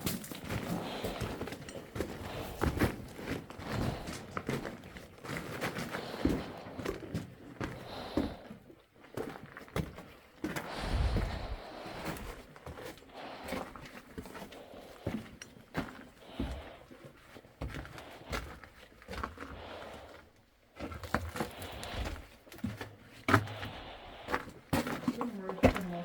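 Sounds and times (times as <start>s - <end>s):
footsteps on rock and loose debris: 0.0s - 8.4s, 9.0s - 20.1s, 20.8s - 26.0s.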